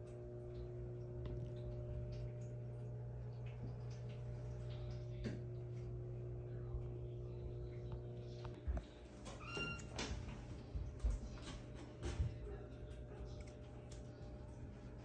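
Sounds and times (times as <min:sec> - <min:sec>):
appliance motor hum: 0:00.0 - 0:15.0.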